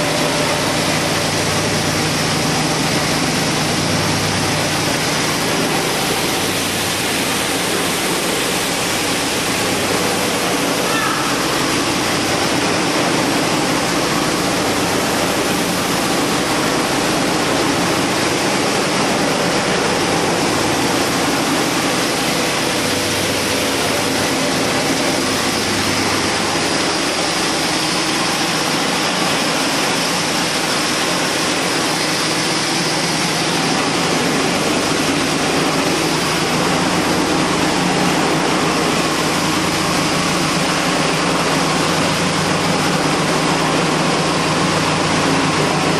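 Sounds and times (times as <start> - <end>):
loud rushing mill machine: 0.0 - 45.9
low machine hum: 0.0 - 45.9.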